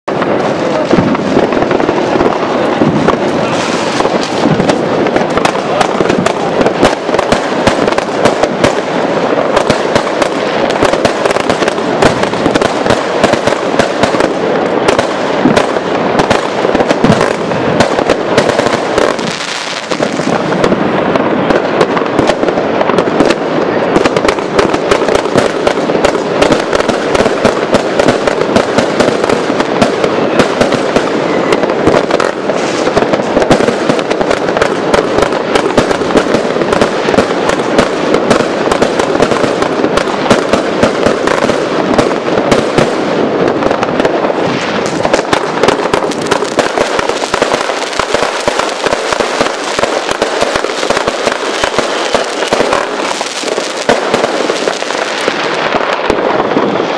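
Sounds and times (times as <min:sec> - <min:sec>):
firework cake shots and bursts: 0:00.0 - 0:56.9.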